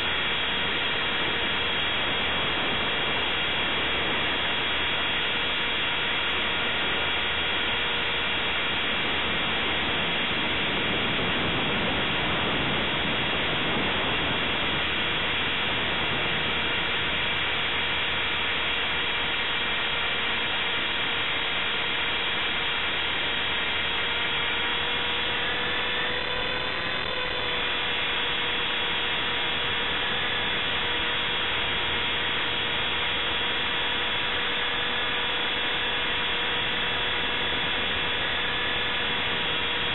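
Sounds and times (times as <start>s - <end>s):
high motor and gear whine: 0.0s - 39.9s.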